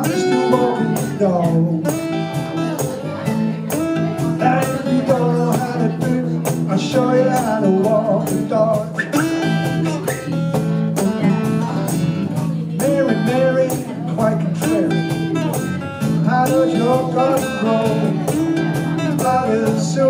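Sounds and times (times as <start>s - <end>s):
cajon beat: 0.0s - 20.0s
electric guitar lead line: 0.0s - 20.0s
strummed acoustic guitar: 0.0s - 20.0s.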